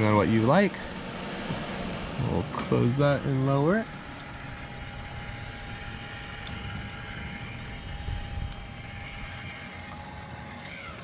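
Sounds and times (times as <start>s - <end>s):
roof vent motor whining: 0.0s - 11.0s.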